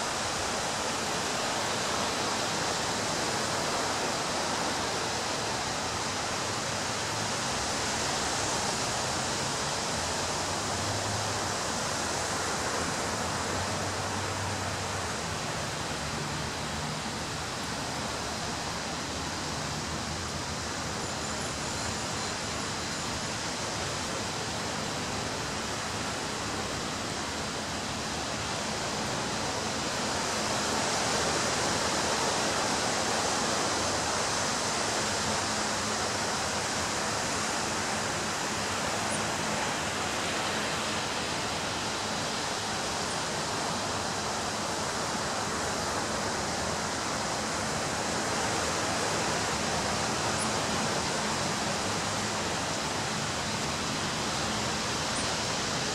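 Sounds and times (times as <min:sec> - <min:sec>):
ocean waves breaking on beach: 0:00.0 - 0:21.0, 0:22.1 - 0:55.9.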